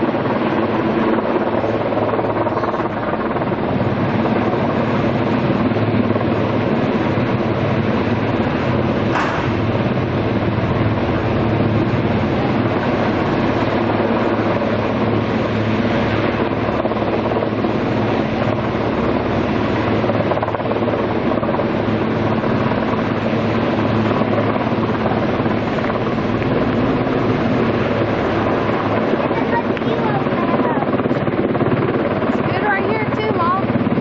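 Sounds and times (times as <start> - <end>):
helicopter hovering: 0.0 - 34.0.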